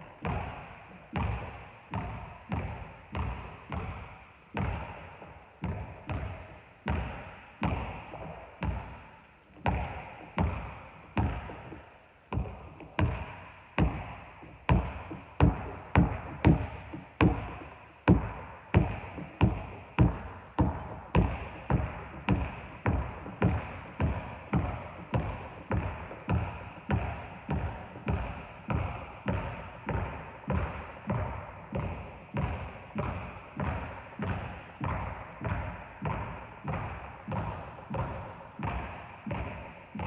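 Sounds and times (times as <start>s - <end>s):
basketball bouncing on wooden floor: 0.1s - 40.0s.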